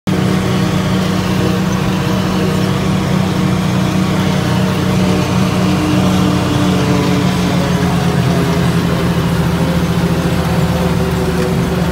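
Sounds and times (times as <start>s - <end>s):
harvester chopping corn: 0.1s - 11.9s
higher mechanical hum: 0.1s - 11.9s
tractor engine under load: 0.1s - 11.9s.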